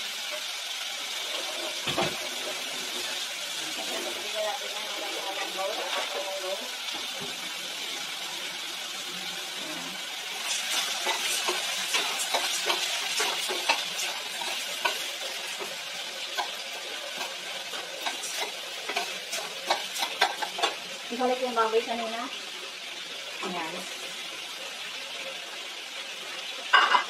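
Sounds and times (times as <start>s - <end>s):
pan sizzling: 0.0s - 27.0s.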